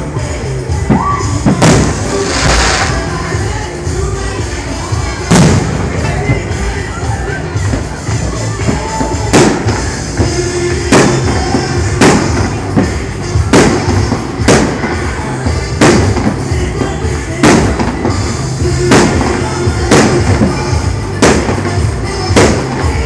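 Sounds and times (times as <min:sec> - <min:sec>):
background music: 0:00.0 - 0:23.0
fireworks bangs: 0:00.9 - 0:06.8, 0:08.6 - 0:23.0.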